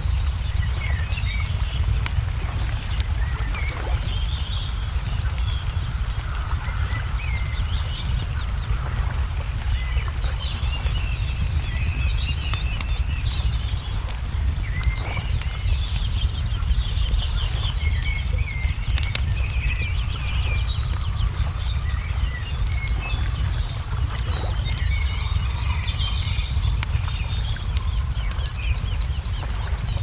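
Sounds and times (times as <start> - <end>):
low rumble: 0.0 - 30.0
songbirds chirping and trilling: 0.0 - 30.0
wood fire crackling and popping: 0.0 - 30.0.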